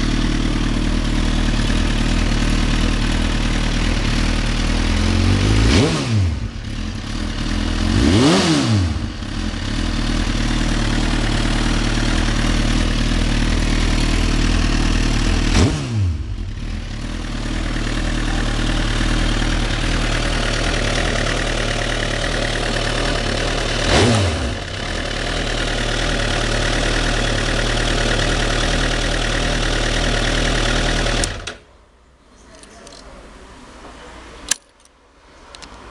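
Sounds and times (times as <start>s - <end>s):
motorcycle engine idling: 0.0s - 31.8s.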